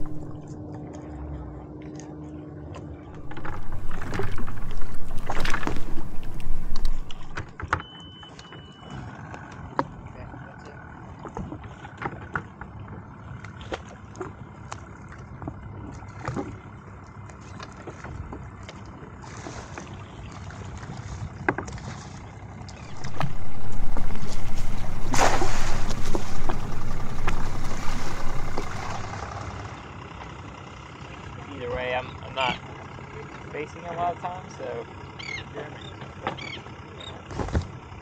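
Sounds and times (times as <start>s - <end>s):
low steady engine hum: 0.0s - 38.0s.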